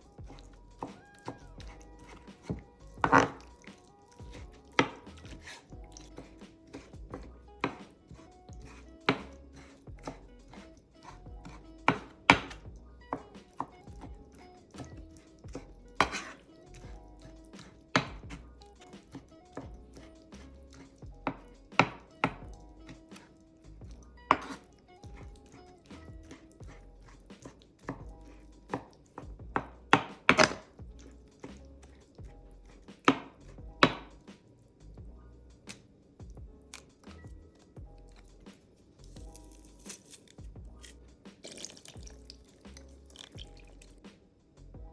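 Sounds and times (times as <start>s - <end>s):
soft background music: 0.0s - 44.9s
knife chopping on cutting board: 0.3s - 14.2s, 14.8s - 23.4s, 24.3s - 32.0s, 32.9s - 34.3s, 39.2s - 43.9s.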